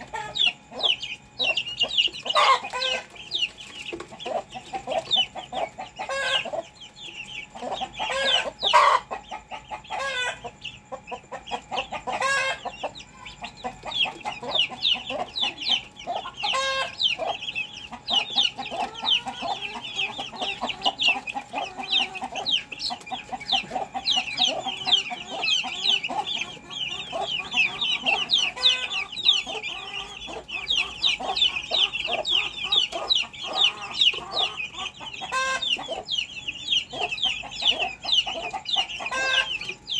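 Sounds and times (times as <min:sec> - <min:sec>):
chickens clucking and calling: 0:00.0 - 0:39.9
rapid high-pitched chirping: 0:00.0 - 0:39.9.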